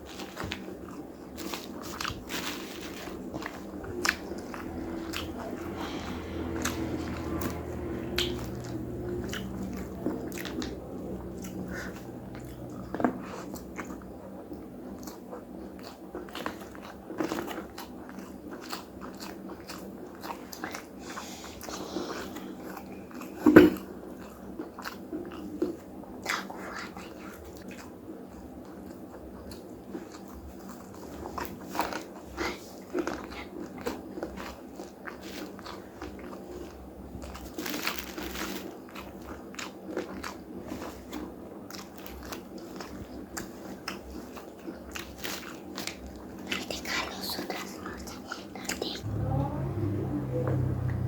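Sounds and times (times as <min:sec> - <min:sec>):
crunchy chewing: 0:00.0 - 0:49.1.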